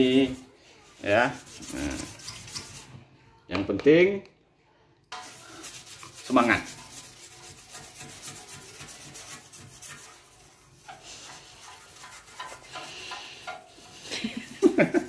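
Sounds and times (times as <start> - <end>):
toothbrush scrubbing glass: 0.0 - 3.0, 5.2 - 15.0.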